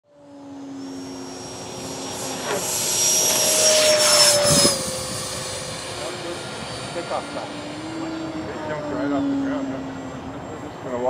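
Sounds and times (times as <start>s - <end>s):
electric jet fan whining: 0.2s - 11.0s
rushing whoosh of passing jet: 0.3s - 10.4s.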